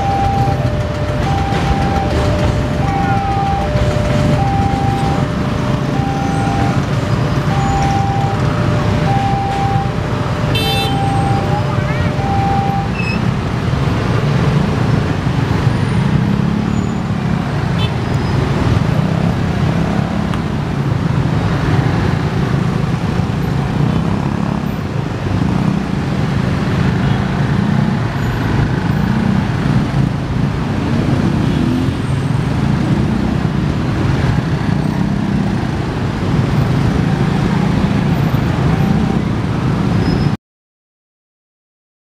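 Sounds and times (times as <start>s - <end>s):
motorcycles and cars running: 0.0s - 40.4s.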